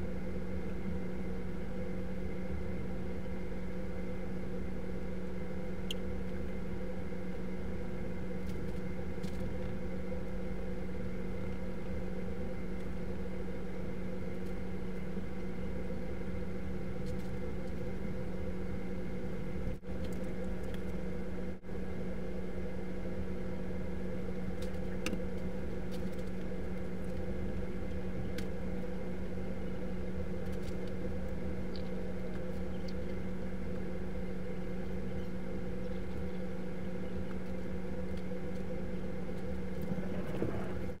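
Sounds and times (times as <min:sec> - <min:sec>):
electrical hum with held tones: 0:00.0 - 0:41.0.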